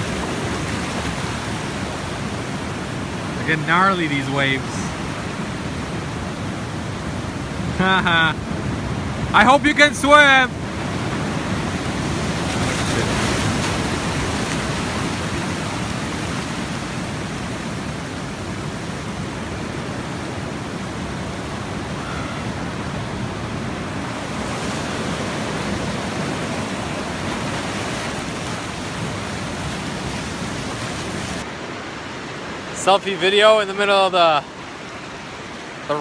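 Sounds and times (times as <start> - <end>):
surf washing over rocks: 0.0 - 36.0.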